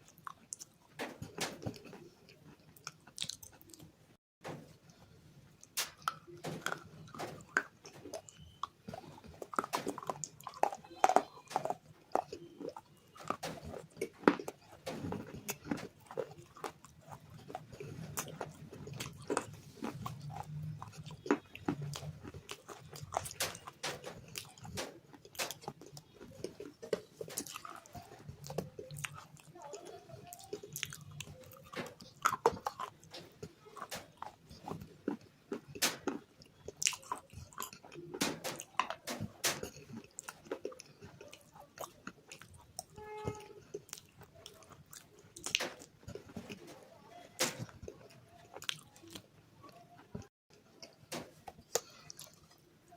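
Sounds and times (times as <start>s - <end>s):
biting and chewing crunchy clay: 0.0s - 3.9s, 5.6s - 52.9s.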